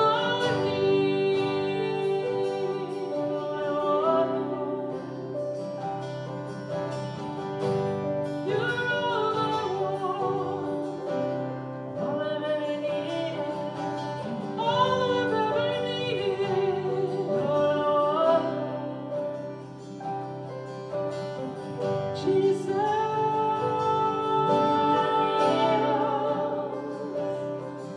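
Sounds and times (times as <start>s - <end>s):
person singing worship song: 0.0s - 5.9s, 7.6s - 20.2s, 21.3s - 27.9s.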